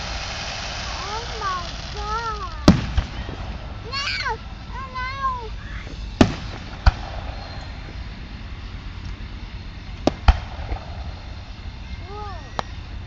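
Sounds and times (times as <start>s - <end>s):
outdoor crowd ambience: 0.0s - 13.0s.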